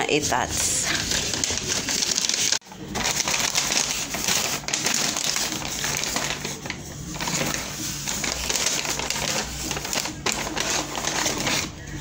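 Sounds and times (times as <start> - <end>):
paper packaging rustling: 0.2 - 12.0.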